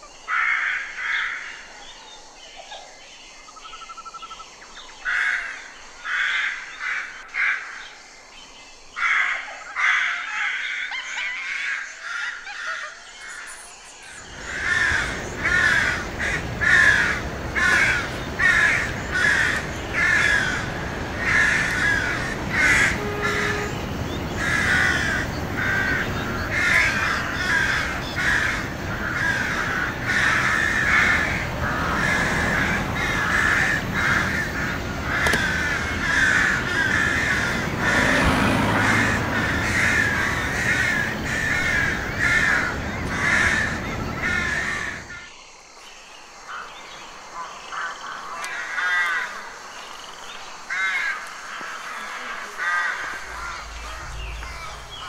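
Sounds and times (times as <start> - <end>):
crows cawing: 0.3 - 1.6, 5.0 - 7.8, 9.0 - 12.9, 14.2 - 45.3, 47.7 - 49.4, 50.7 - 55.0.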